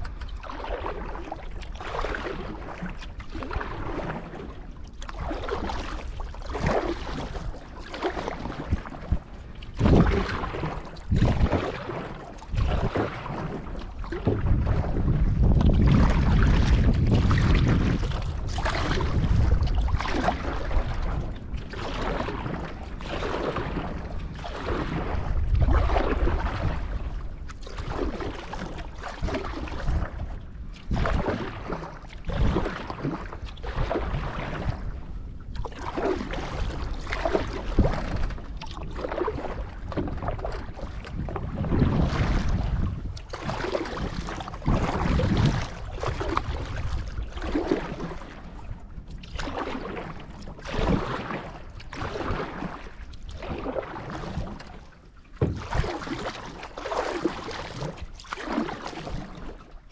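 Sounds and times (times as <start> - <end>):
paddle splashing in water: 0.0 - 59.9
wind on microphone: 0.0 - 59.9.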